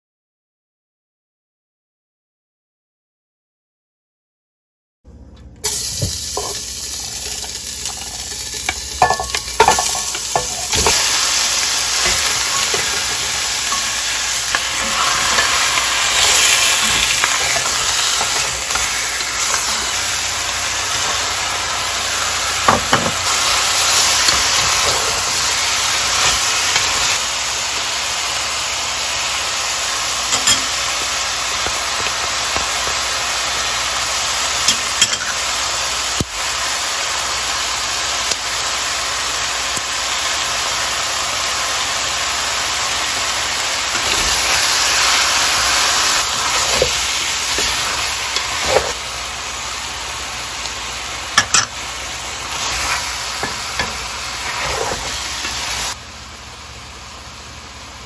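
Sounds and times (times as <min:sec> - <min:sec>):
meat sizzling in a pot: 0:05.6 - 0:57.8.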